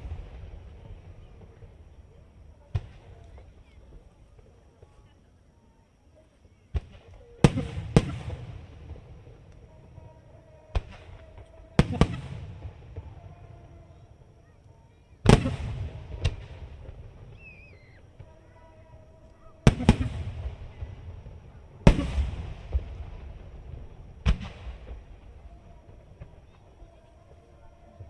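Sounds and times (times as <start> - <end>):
firework booms: 0.0 - 5.0, 6.7 - 28.0
smaller firework reports: 0.0 - 28.0.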